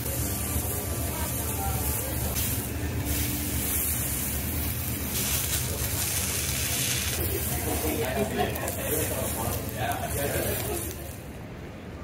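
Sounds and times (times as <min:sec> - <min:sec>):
food sizzling on griddle: 0:00.0 - 0:11.3.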